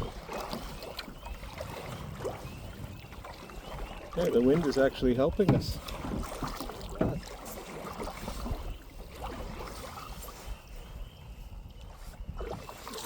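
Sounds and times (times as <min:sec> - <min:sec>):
canoe paddle strokes in water: 0:00.0 - 0:13.0
wind rumble on microphone: 0:00.0 - 0:13.0.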